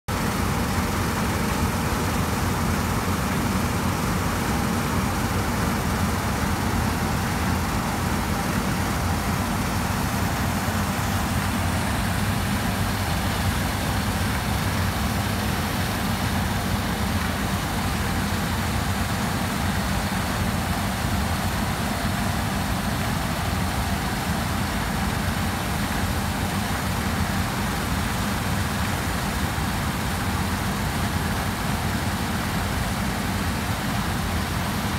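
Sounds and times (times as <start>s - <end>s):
combine harvester rumbling: 0.1s - 34.9s.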